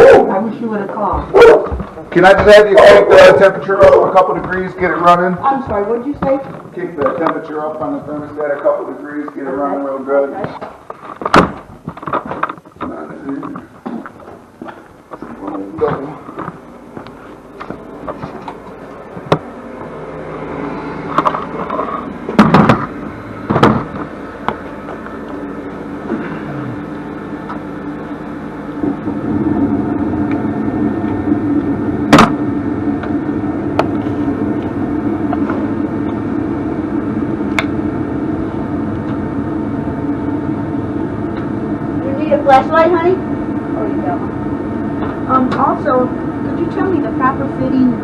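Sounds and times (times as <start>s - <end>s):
furnace blower rush: 0.0s - 48.0s
furnace motor hum: 0.0s - 48.0s.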